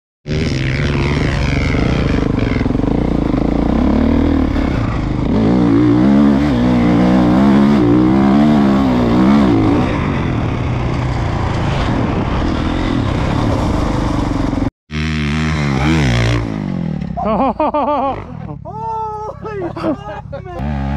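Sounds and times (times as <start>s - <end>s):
motocross bike engine revving: 0.3s - 18.6s, 20.6s - 20.9s.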